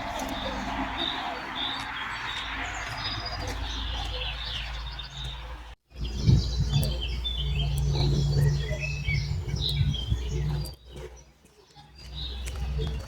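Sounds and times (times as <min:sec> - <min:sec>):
steady low rumble: 0:00.0 - 0:10.8
songbirds chirping: 0:00.0 - 0:13.0.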